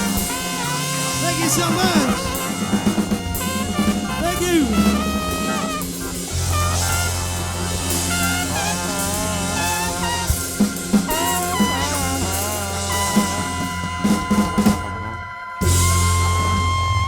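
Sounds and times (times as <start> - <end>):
drum hits and fills: 0.0 - 15.0
held bass note: 0.0 - 17.0
soul band playing: 0.0 - 17.0.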